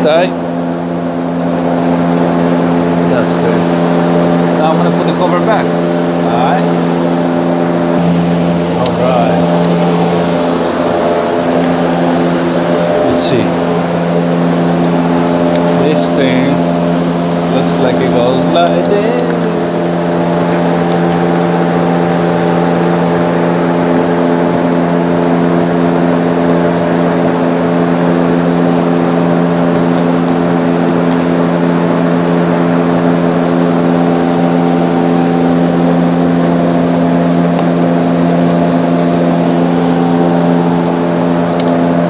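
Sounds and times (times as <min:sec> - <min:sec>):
steady machine drone: 0:00.0 - 0:42.0.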